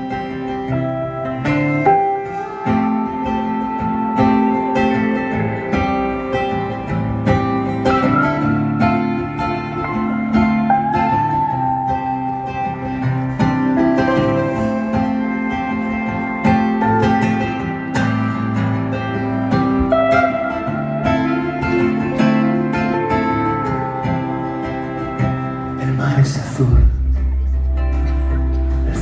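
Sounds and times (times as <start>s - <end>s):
acoustic guitar strumming: 0.0s - 29.0s
gliding lead melody: 0.0s - 29.0s.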